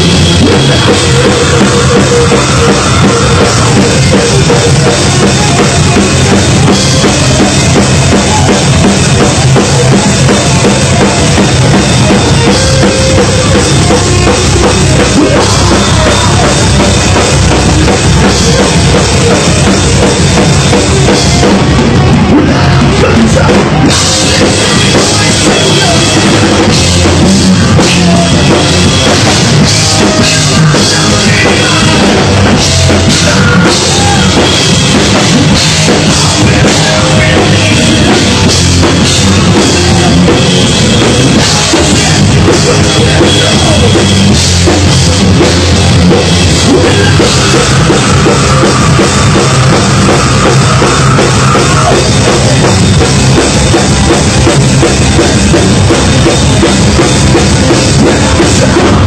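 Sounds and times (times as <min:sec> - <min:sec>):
electric guitars: 0:00.0 - 0:59.0
pounding drum kit: 0:00.0 - 0:59.0.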